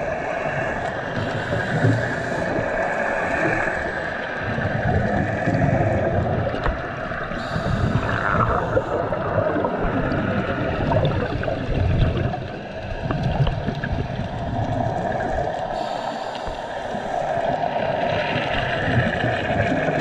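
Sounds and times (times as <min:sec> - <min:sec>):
underwater bubbling exhalations: 0:00.0 - 0:20.0.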